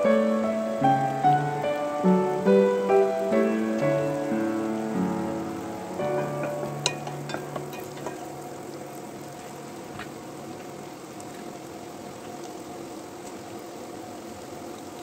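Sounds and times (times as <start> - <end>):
onion sizzling in butter: 0.0 - 15.0.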